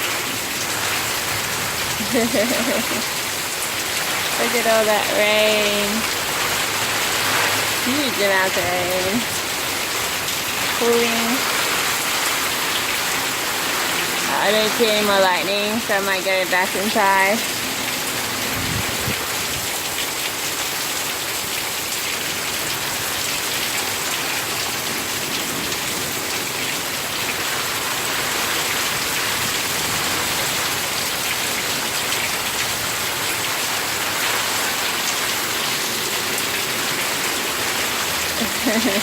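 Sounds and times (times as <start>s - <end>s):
heavy rain pouring: 0.0s - 39.0s
raindrops pattering on hard surfaces: 0.0s - 39.0s.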